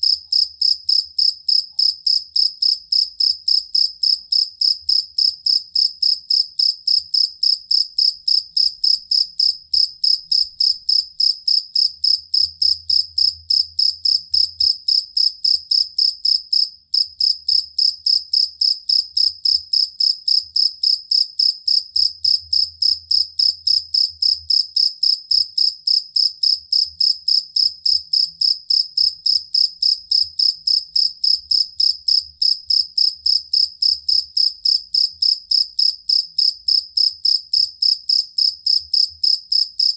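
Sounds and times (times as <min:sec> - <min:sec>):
field cricket chirping: 0:00.0 - 0:39.9.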